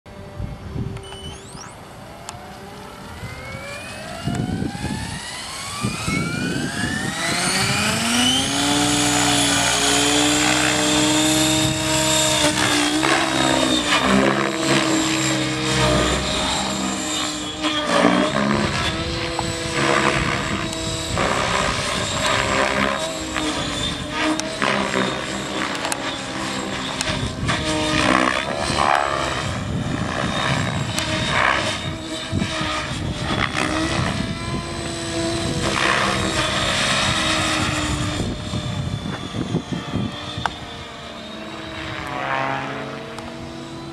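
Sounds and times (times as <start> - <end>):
radio-controlled helicopter motor whine: 0.1 - 43.9
rotor blade noise: 0.8 - 43.9.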